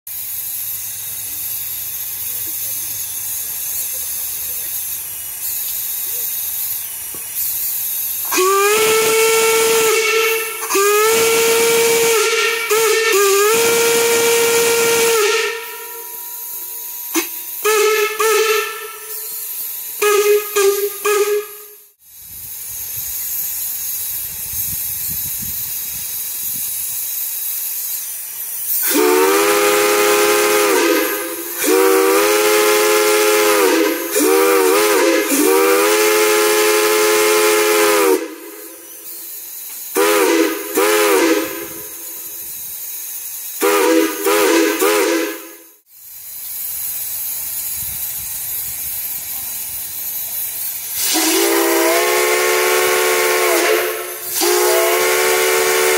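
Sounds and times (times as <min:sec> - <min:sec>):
multi-chime steam whistle: 0:00.1 - 0:55.9
steam hissing: 0:00.1 - 0:55.9.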